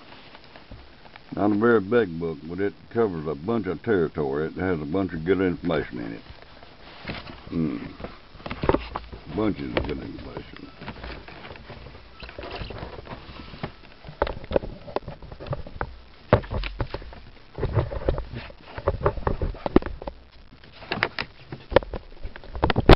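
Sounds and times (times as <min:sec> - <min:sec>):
paper rustling: 0:00.0 - 0:01.7, 0:05.7 - 0:22.9.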